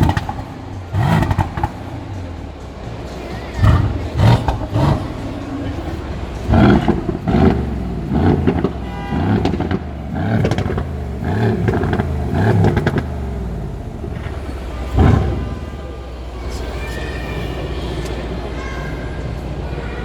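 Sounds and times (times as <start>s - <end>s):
car engine revving: 0.0s - 20.0s
exhaust crackles: 0.0s - 20.0s.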